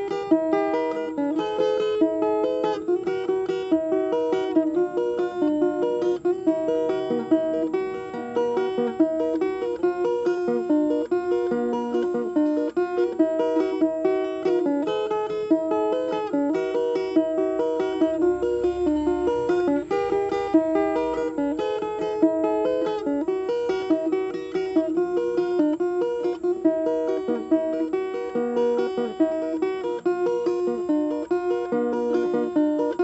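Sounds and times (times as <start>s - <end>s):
plucked string instrument melody: 0.0s - 33.0s.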